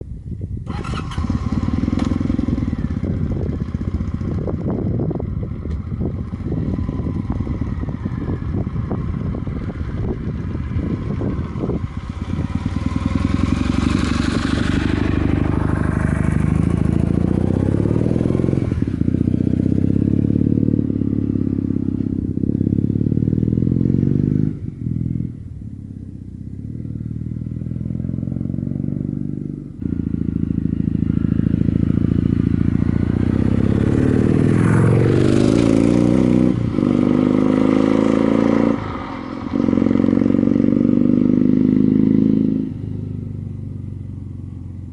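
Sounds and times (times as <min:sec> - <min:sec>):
motorcycle engine running: 0:00.7 - 0:44.9.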